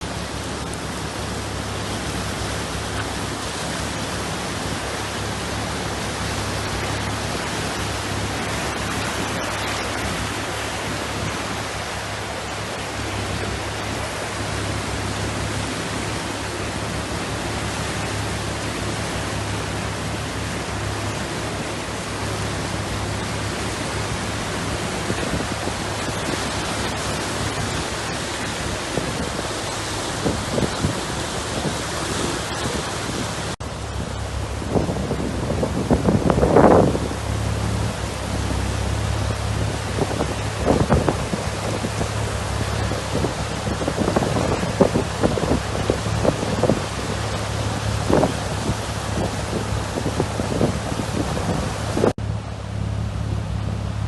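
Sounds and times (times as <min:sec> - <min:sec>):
rushing floodwater: 0:00.0 - 0:54.0
torrential rain: 0:00.0 - 0:54.0.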